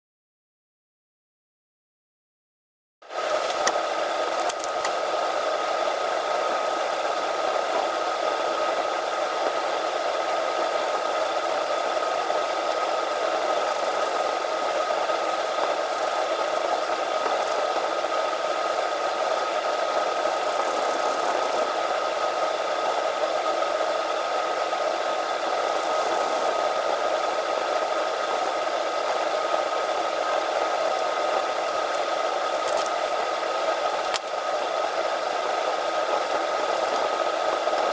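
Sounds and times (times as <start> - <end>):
steady whirring hum: 3.1 - 37.9.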